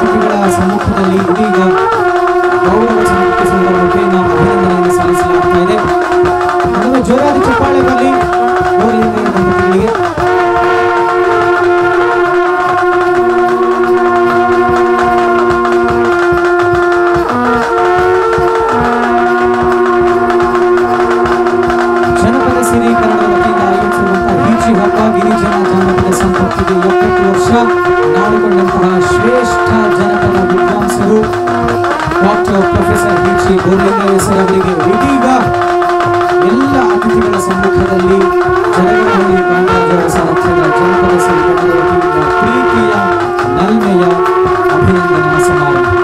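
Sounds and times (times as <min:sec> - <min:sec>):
steady drone: 0:00.0 - 0:46.0
wind instrument long notes: 0:00.0 - 0:46.0.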